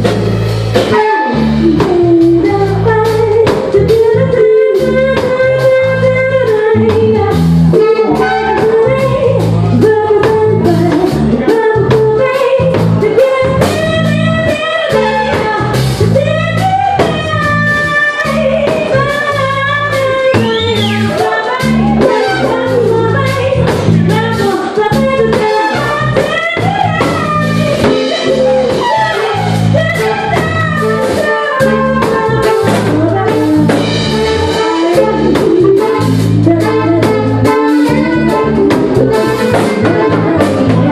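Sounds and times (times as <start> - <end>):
drum kit: 0.0 - 40.9
rhythmic bass: 0.0 - 40.9
sliding melodic lead line: 0.0 - 40.9.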